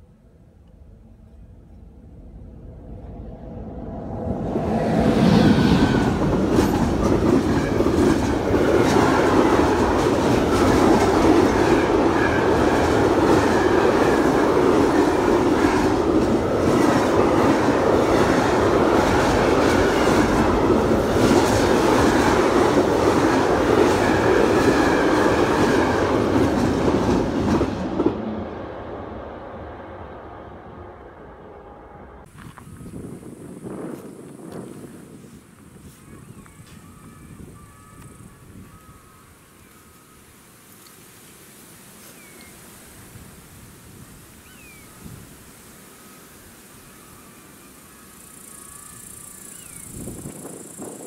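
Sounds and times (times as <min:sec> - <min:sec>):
freight train passing: 0:00.0 - 0:40.8, 0:41.8 - 0:51.0.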